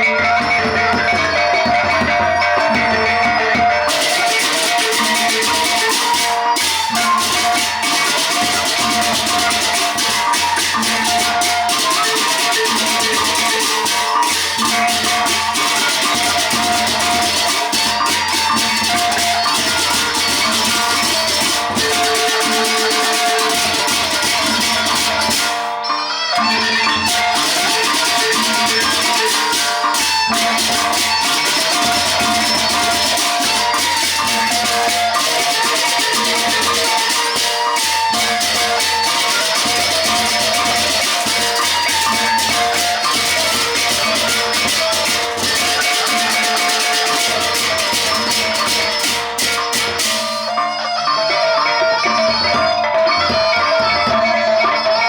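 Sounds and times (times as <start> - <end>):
drums and cymbals beating: 0.0 - 55.0.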